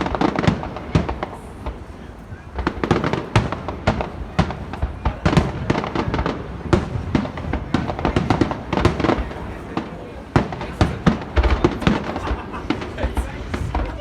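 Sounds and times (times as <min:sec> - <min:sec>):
deep fireworks booms: 0:00.0 - 0:14.0
fireworks bangs and crackling: 0:00.0 - 0:14.0.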